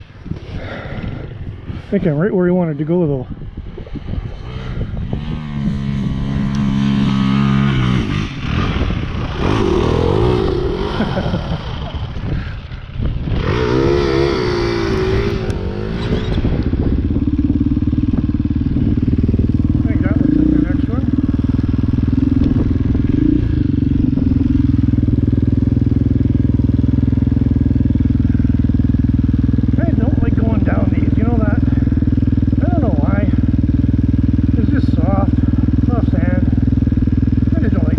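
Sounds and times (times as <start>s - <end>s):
dirt bike engine revving: 4.0s - 37.9s.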